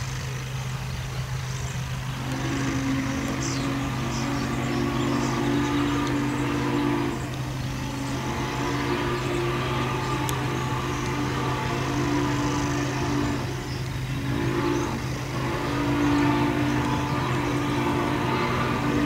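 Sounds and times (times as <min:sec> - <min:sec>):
vehicle running hum: 0:00.0 - 0:19.0.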